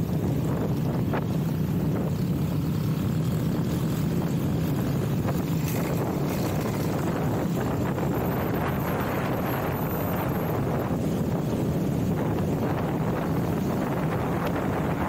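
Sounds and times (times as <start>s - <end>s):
dirt bike engine droning: 0.0s - 15.0s.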